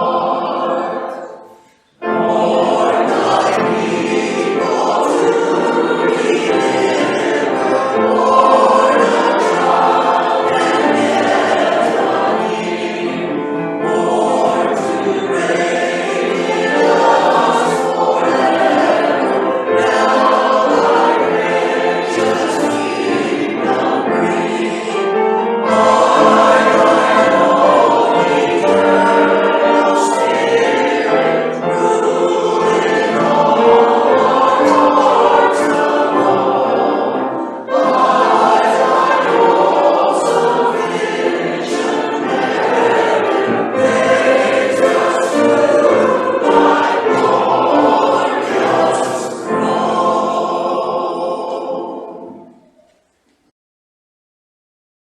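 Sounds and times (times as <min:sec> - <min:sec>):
choir singing a hymn: 0:00.0 - 0:53.5.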